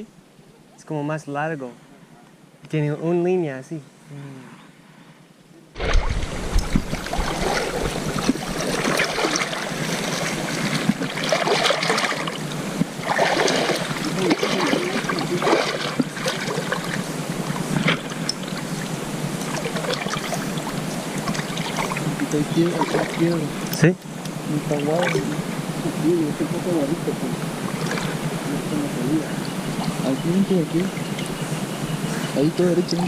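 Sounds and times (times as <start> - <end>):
river water rushing: 5.8 - 33.0.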